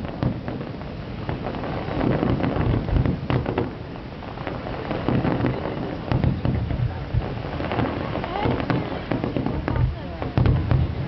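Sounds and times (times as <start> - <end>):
fireworks booming: 0.0 - 11.0
fireworks crackling and popping: 0.0 - 11.0.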